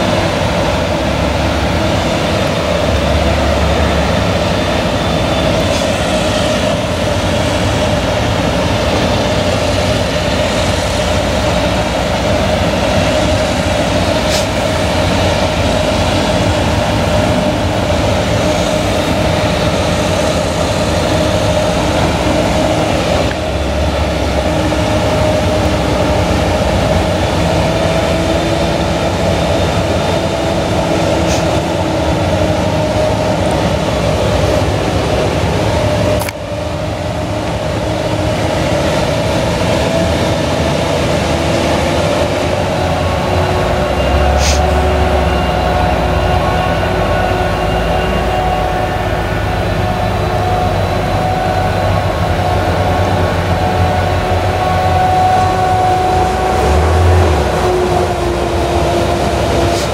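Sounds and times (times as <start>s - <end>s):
constant mechanical whine: 0.0s - 59.9s
engine running under load: 0.0s - 59.9s.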